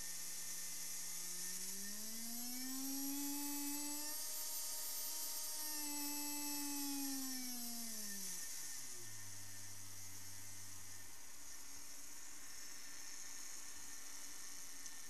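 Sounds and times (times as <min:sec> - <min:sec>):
small electric motor whining: 0:00.0 - 0:15.0
steady hiss: 0:00.0 - 0:15.0.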